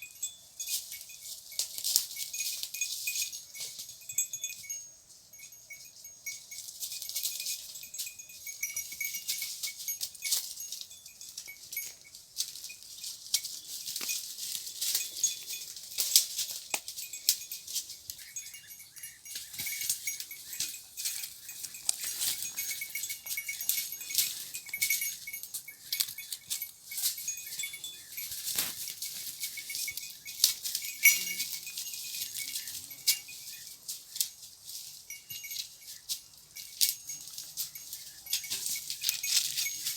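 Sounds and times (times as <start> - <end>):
goat bells clinking and jangling: 0.0 - 39.9.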